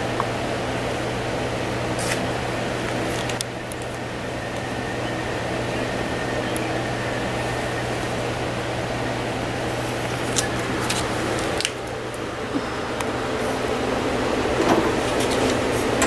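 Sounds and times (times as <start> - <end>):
steady hum and hiss: 0.0 - 16.0.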